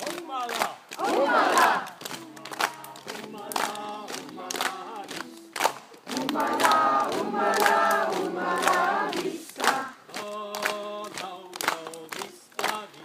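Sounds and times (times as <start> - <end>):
group singing: 0.0 - 13.0
hands clapping: 0.0 - 13.0.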